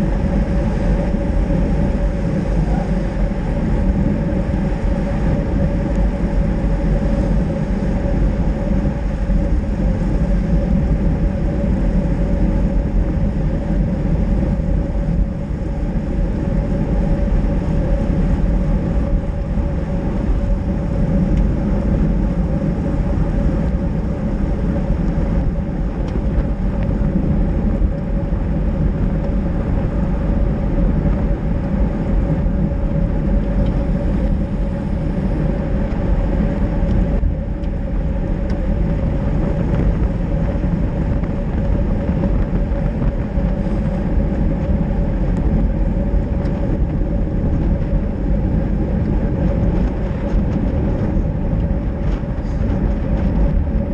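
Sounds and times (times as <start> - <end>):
steady hum: 0.0 - 53.9
wind rush over microphone: 0.0 - 53.9.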